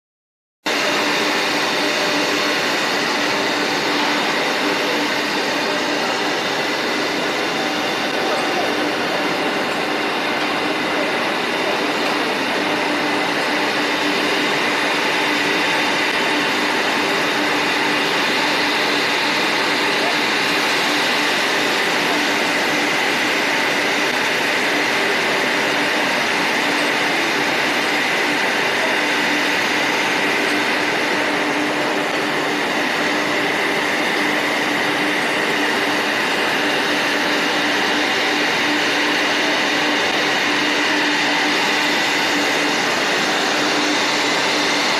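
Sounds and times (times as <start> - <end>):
busy hall noise: 0.7 - 44.9
woodworking machine running: 0.7 - 44.9.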